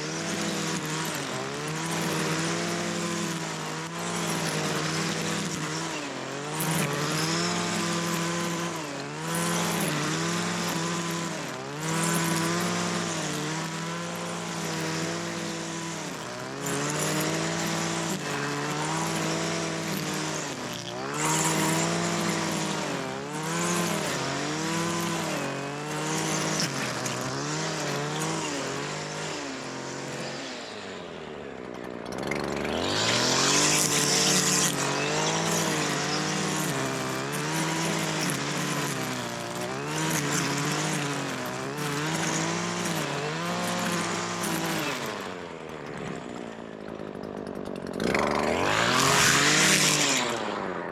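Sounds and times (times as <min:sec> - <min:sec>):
small petrol engine revving: 0:00.0 - 0:50.9.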